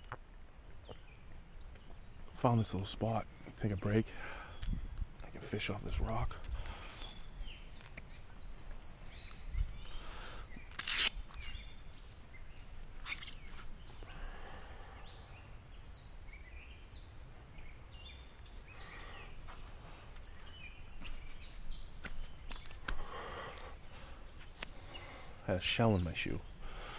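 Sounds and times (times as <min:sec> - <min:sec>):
birds singing and calling: 0:00.0 - 0:26.9.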